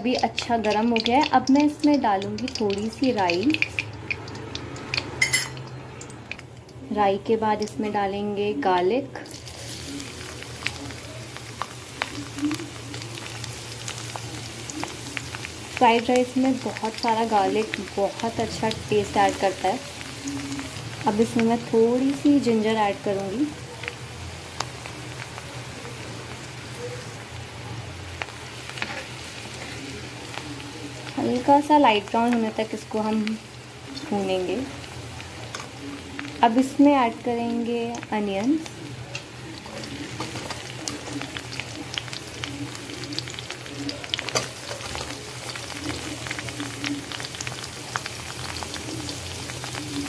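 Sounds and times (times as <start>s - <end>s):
spices sizzling in hot oil: 0.0s - 50.0s.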